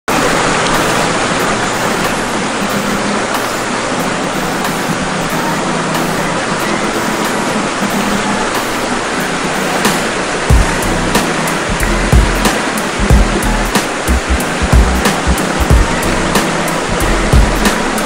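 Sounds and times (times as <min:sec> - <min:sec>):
river water rushing over rocks: 0:00.1 - 0:18.0.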